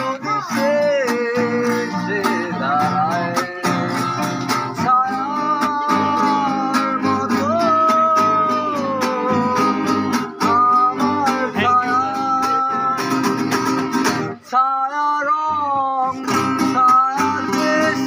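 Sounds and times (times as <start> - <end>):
acoustic guitars strummed: 0.0 - 18.0
man singing: 0.0 - 18.0.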